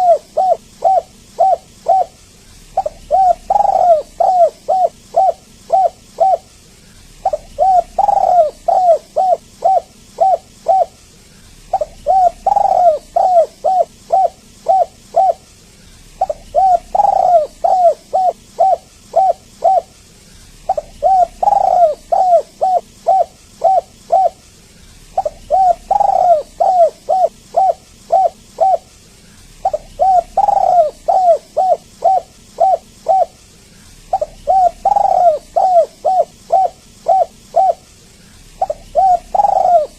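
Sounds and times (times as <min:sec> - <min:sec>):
dove cooing: 0:00.0 - 0:20.0, 0:20.6 - 0:24.4, 0:25.0 - 0:28.9, 0:29.5 - 0:39.9.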